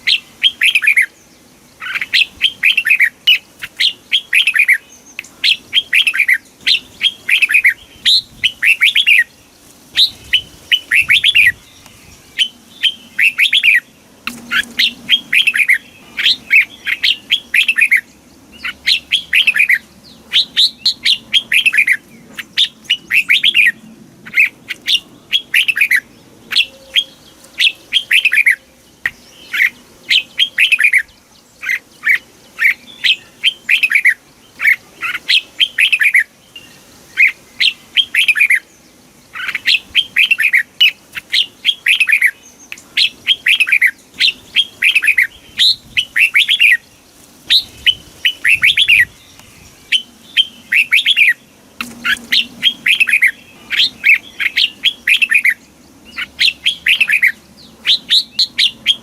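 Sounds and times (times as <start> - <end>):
bird singing whistled notes: 0.0 - 9.4, 10.0 - 59.0.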